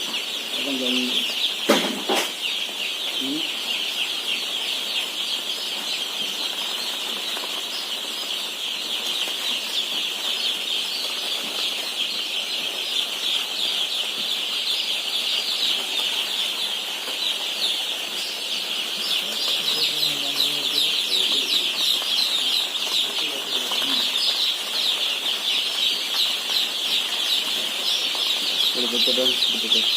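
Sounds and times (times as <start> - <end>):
chicks peeping: 0.0 - 29.9.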